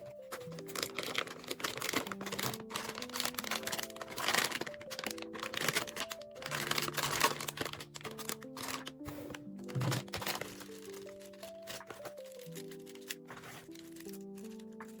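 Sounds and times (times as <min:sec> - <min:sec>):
background music with held notes: 0:00.0 - 0:15.0
packaging clicks and rustles: 0:00.0 - 0:15.0.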